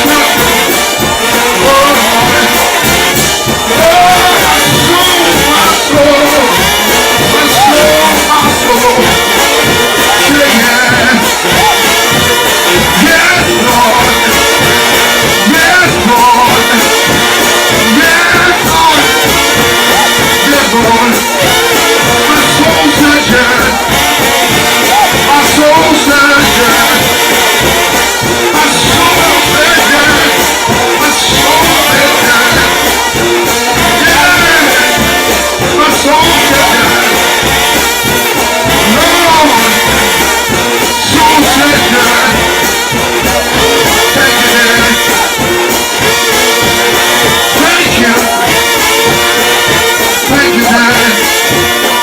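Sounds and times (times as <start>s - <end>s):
trombone brass band: 0.0s - 52.0s
voices singing along: 0.0s - 52.0s.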